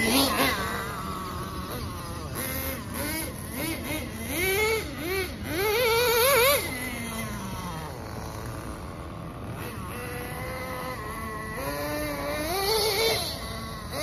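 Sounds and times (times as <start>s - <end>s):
small rc engine revving: 0.0s - 14.0s.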